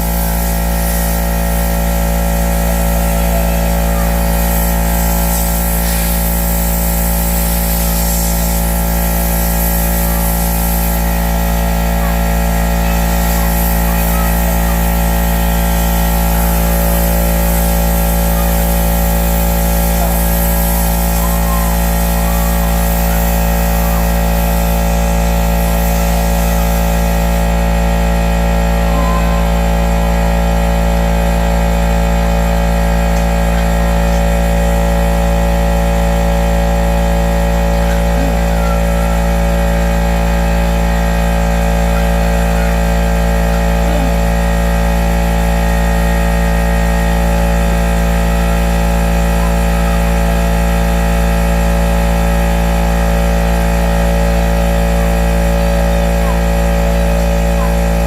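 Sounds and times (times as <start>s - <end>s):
motor running steadily: 0.0s - 58.0s.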